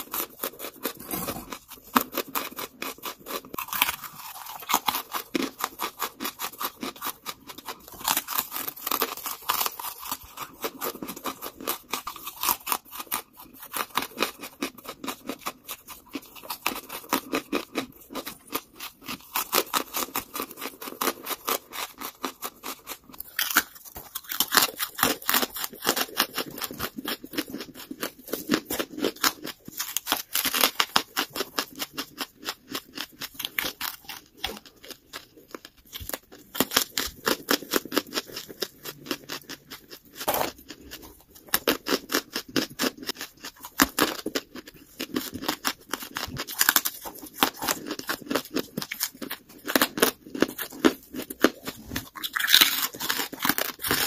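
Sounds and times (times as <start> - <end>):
charcoal crunching between teeth: 0.0 - 54.0.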